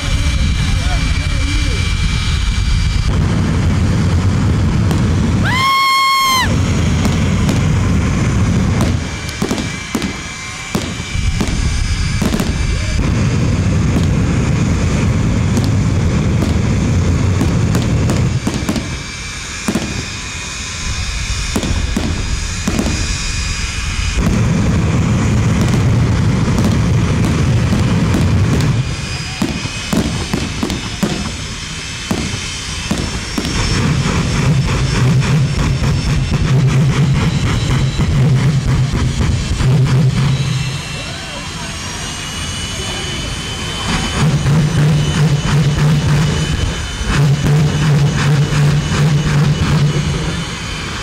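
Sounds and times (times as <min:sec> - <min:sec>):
jet engine roaring on afterburner: 0:00.0 - 0:51.0.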